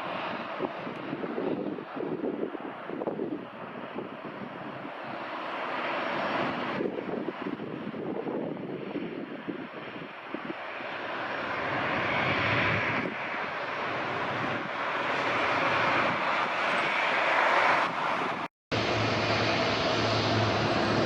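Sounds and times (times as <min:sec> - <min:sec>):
jet engines passing: 0:00.0 - 0:21.0.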